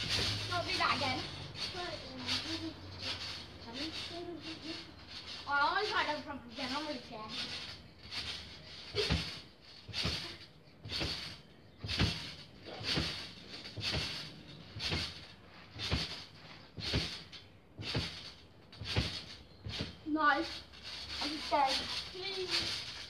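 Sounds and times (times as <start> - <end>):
trampoline thudding and creaking: 0.0 - 23.0.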